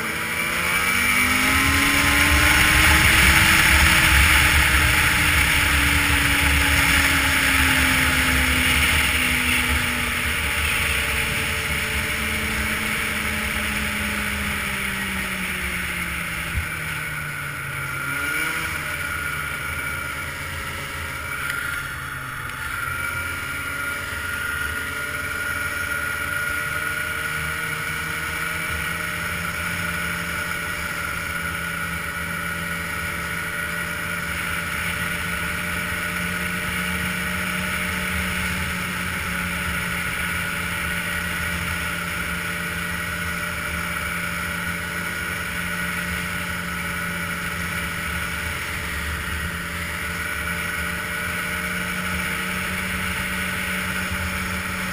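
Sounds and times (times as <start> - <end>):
snowmobile engine running: 0.0 - 54.9.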